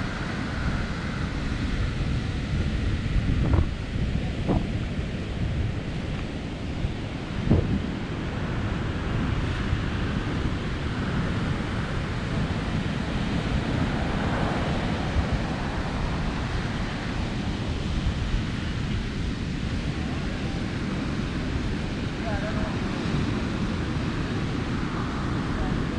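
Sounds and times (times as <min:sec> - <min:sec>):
ocean surf: 0:00.0 - 0:25.9
wind buffeting microphone: 0:00.0 - 0:25.9.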